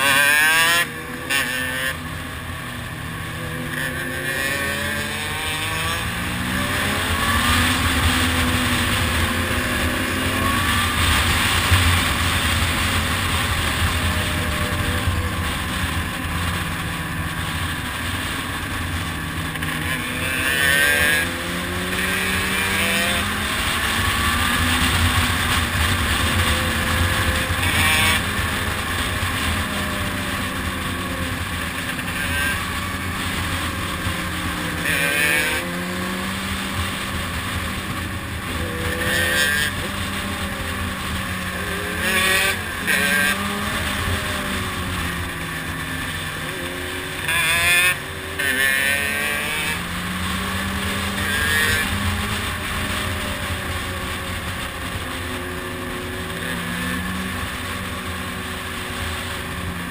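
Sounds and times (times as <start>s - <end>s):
motorcycle engines revving: 0.0s - 59.9s
wind and road noise: 0.0s - 59.9s.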